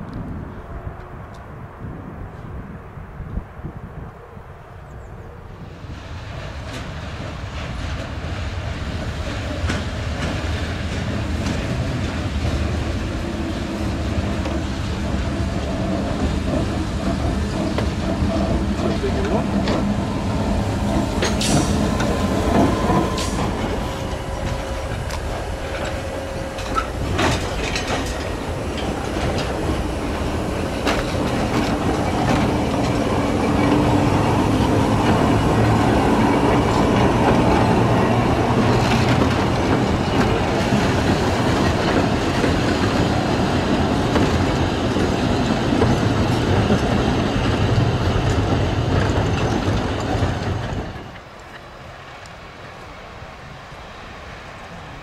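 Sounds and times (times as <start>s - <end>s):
wheels clicking over rail joints: 6.3s - 52.9s.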